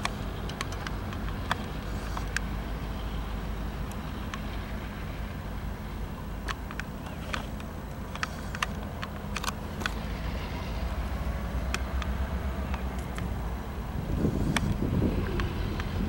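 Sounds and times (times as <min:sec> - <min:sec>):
sharp clicks and ticks: 0:00.0 - 0:05.1, 0:06.0 - 0:16.0
diesel locomotive rumbling past: 0:00.0 - 0:16.0.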